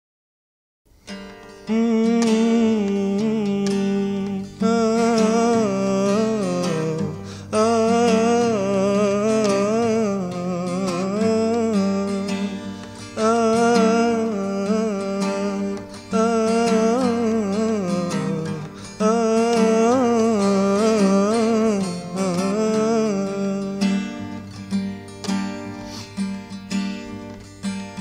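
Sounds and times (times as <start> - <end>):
strummed acoustic guitar: 0.9 - 28.0
man singing wordless melody: 1.5 - 24.8.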